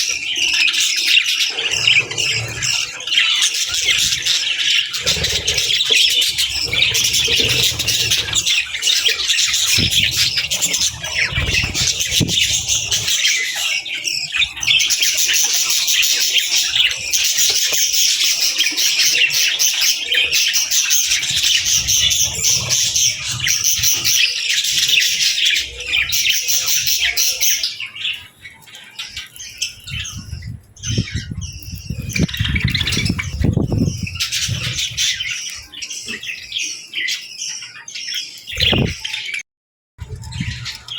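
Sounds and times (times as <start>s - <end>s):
budgies and lovebirds chirping: 0.0s - 39.4s, 40.0s - 40.9s.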